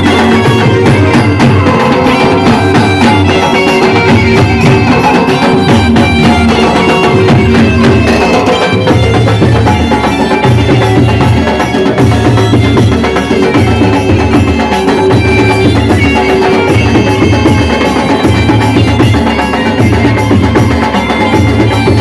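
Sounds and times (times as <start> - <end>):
loud music with heavy drumming: 0.0 - 22.0.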